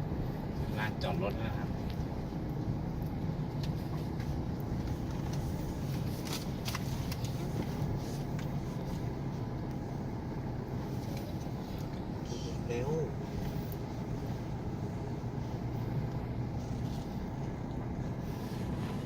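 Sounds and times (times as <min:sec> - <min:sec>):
vehicle engine and tyres rumbling: 0:00.0 - 0:19.0.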